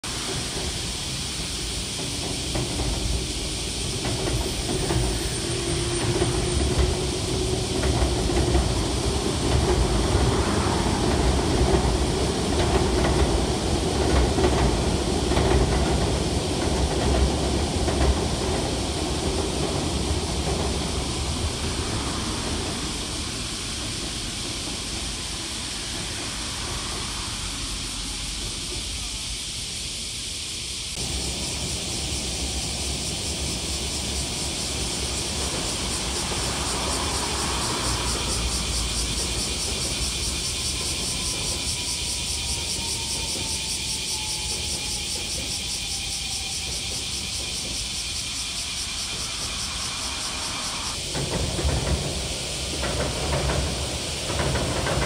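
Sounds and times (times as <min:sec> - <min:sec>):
train rumbling over bridge: 0:00.0 - 0:55.0
wheel clatter over rail joints: 0:00.1 - 0:27.0, 0:31.0 - 0:55.0.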